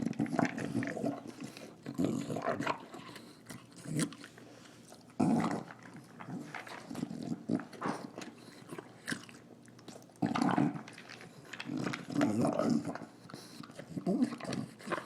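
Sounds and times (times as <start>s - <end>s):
dog snorting and snarling: 0.0s - 4.4s, 5.2s - 9.4s, 10.0s - 15.0s
dog chewing: 0.0s - 15.0s.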